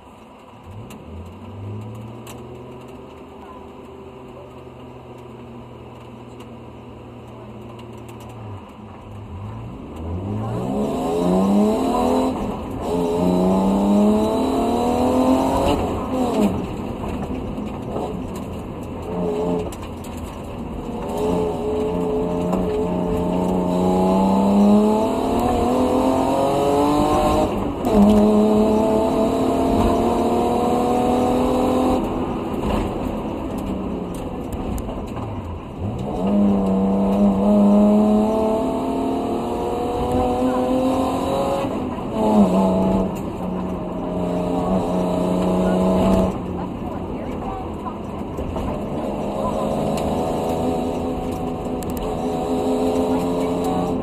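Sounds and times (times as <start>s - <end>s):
rally car engine accelerating: 0.0s - 54.0s
road and tyre noise: 0.0s - 54.0s.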